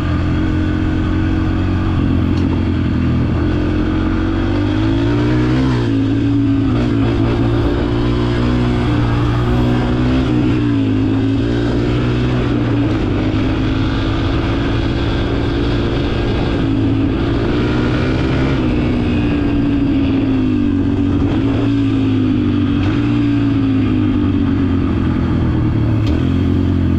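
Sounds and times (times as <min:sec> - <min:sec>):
dirt bike engine running: 0:00.0 - 0:26.9.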